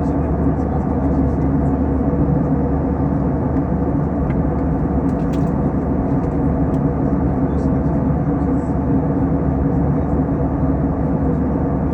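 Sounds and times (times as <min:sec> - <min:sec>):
airliner cabin engine rumble: 0:00.0 - 0:11.9.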